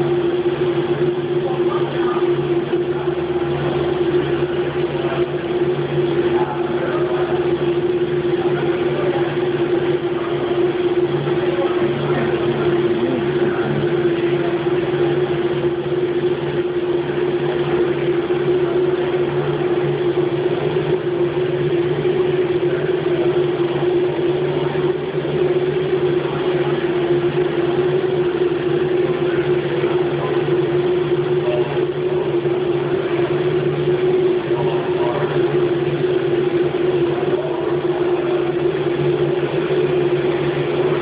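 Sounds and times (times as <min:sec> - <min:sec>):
milling machine whining and humming: 0:00.0 - 0:41.0.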